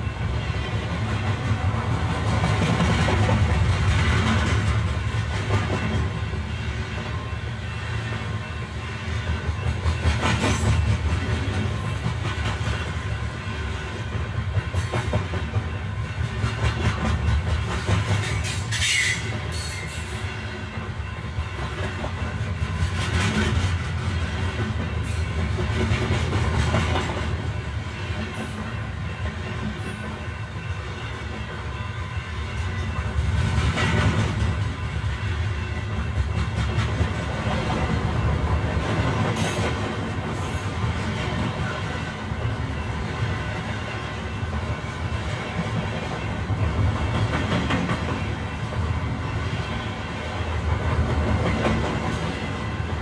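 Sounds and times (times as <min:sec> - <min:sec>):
train coach rumbling: 0:00.0 - 0:53.0.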